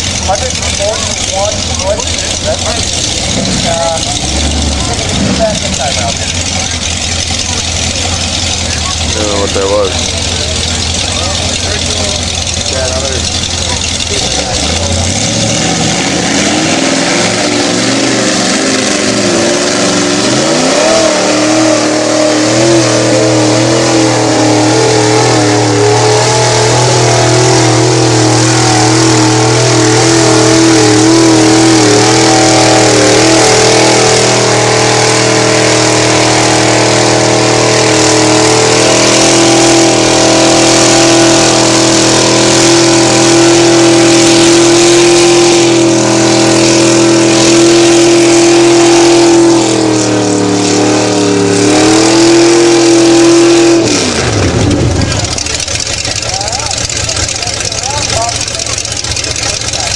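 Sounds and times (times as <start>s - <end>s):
truck engine revving hard: 0.0s - 59.9s.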